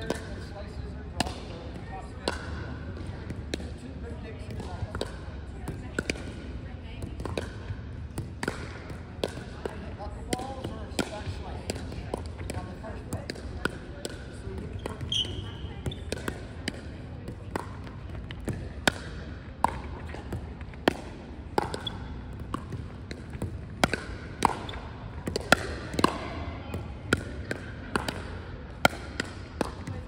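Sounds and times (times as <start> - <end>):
paddles hitting plastic ball: 1.2 - 1.6, 2.2 - 3.8, 4.4 - 30.0.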